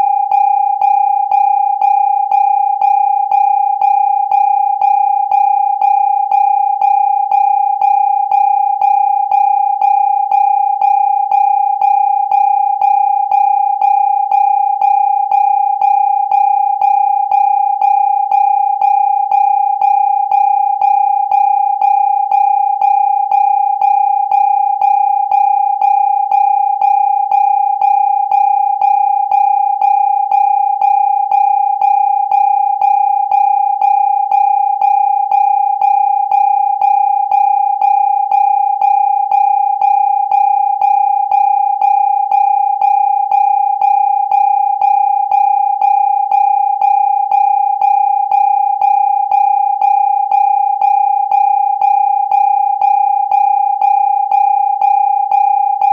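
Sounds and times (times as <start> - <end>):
high-pitched electronic alarm tone: 0.0 - 55.9.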